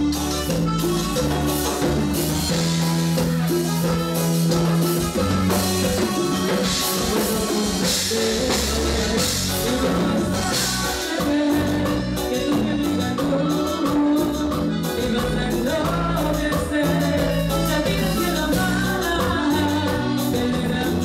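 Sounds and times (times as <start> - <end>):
drum kit: 0.0 - 21.0
electric guitar: 0.0 - 21.0
keyboard: 0.0 - 21.0.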